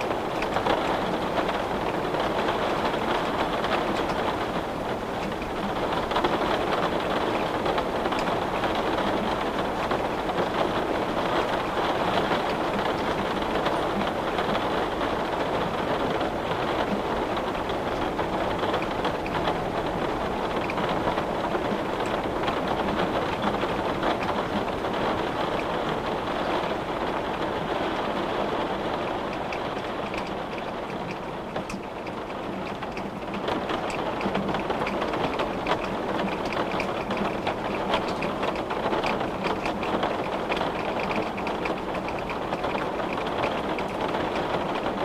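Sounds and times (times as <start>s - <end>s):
rain on a window: 0.0s - 45.0s.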